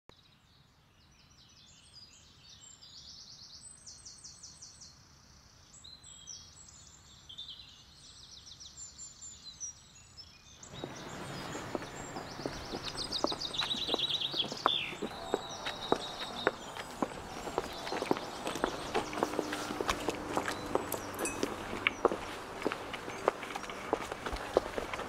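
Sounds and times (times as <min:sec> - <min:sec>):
songbirds trilling and chirping: 0:00.2 - 0:25.0
outdoor ambience hiss: 0:00.4 - 0:25.0.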